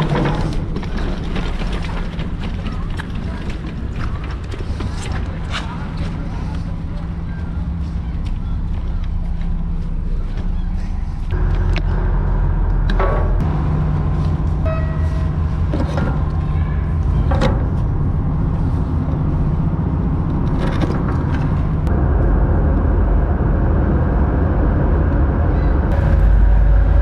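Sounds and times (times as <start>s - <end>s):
ship engines droning: 0.0s - 27.0s.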